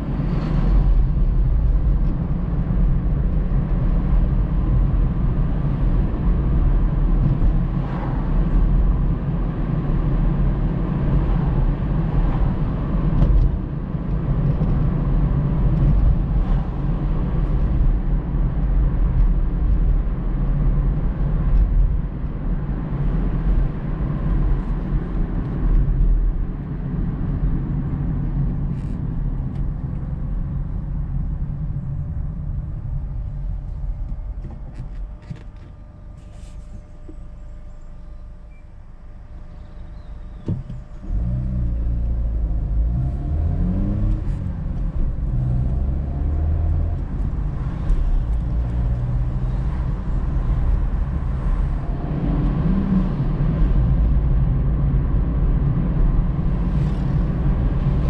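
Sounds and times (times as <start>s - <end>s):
car engine rumble inside cabin: 0.0s - 58.0s.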